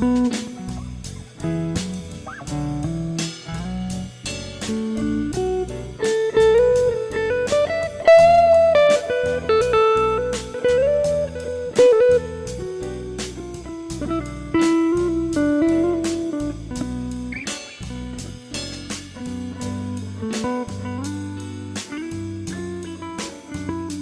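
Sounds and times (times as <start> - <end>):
slow blues guitar: 0.0 - 24.0.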